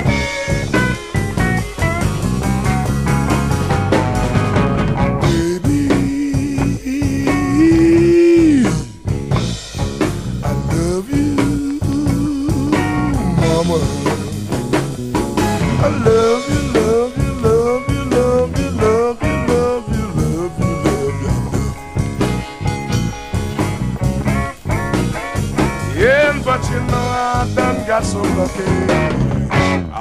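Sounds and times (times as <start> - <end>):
bent lead guitar notes: 0.0 - 30.0
blues band playing: 0.0 - 30.0.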